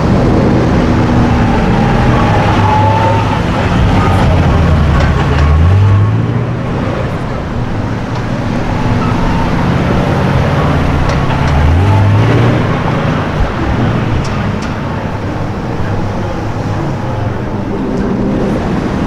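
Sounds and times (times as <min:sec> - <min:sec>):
car engine accelerating: 0:00.0 - 0:19.0
traffic noise: 0:00.0 - 0:19.0.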